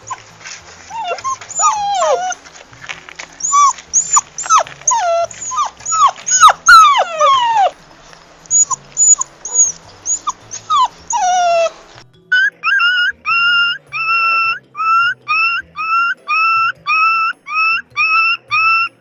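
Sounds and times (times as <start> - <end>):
puppy whimpering and yelping: 0.0 - 2.6, 3.4 - 7.8, 8.4 - 19.0.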